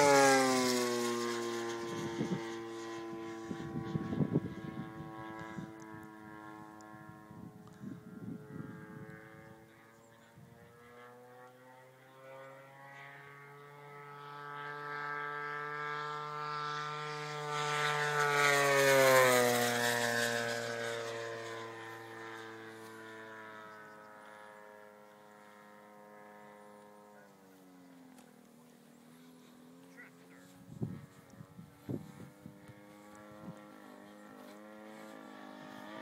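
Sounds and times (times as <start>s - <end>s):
model plane engine fly-by: 0.0s - 36.0s.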